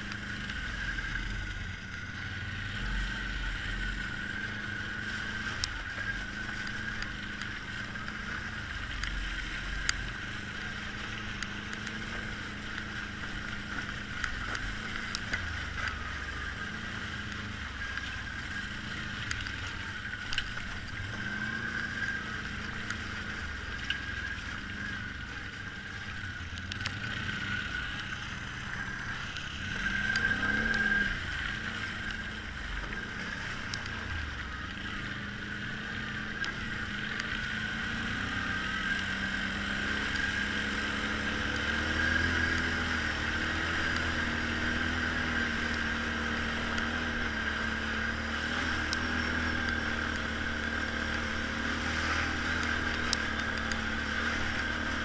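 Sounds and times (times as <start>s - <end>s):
quad bike engine revving: 0.0s - 19.4s, 26.8s - 34.0s, 35.1s - 55.0s.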